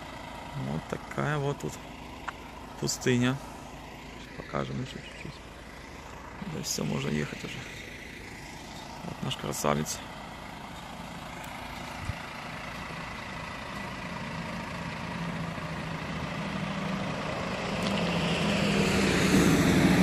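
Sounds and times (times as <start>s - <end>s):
truck diesel engine hum: 0.0s - 20.0s.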